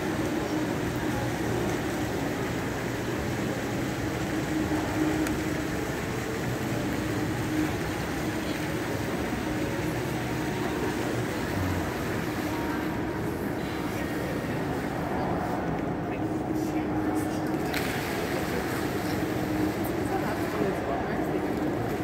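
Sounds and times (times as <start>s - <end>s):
indoor crowd din: 0.0s - 22.0s.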